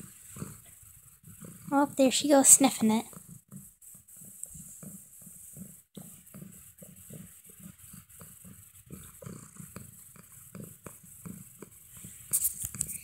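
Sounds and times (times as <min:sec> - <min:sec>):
cat sniffing: 0:00.0 - 0:13.0.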